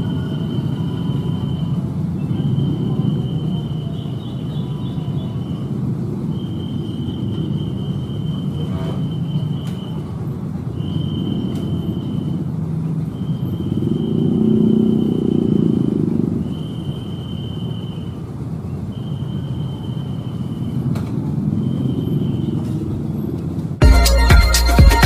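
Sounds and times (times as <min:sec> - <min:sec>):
electric train rumbling: 0:00.0 - 0:23.8.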